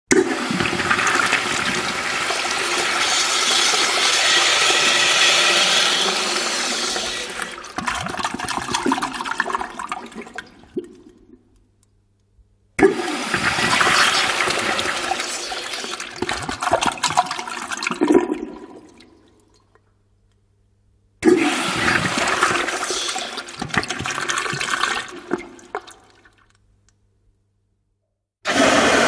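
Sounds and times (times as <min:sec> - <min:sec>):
urinal flushing: 0:00.1 - 0:11.2, 0:12.8 - 0:19.4, 0:21.2 - 0:26.4, 0:28.5 - 0:29.0.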